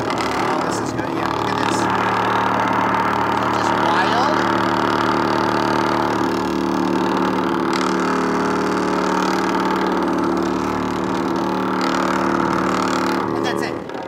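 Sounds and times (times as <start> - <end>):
loudspeaker low buzzing tone: 0.0 - 14.0.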